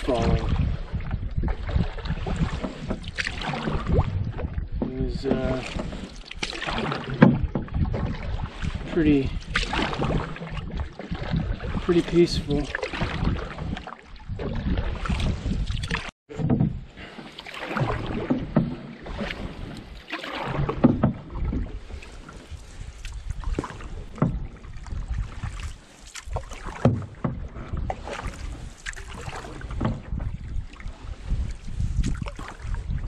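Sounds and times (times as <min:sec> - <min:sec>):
canoe paddle splashing in water: 0:00.0 - 0:33.0.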